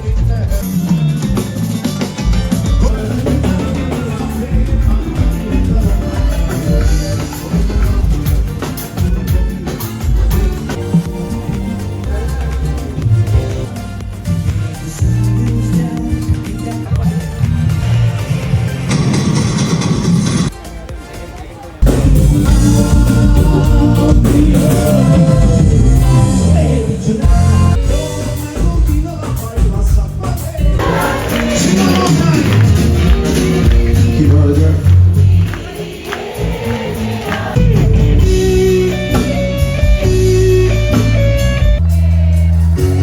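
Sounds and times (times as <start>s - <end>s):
band playing with singer: 0.0s - 19.2s, 20.5s - 43.0s.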